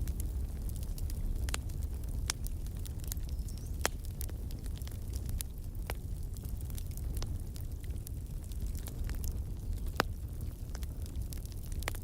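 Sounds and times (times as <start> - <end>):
firewood crackling and popping: 0.0 - 12.0
roar of flames: 0.0 - 12.0.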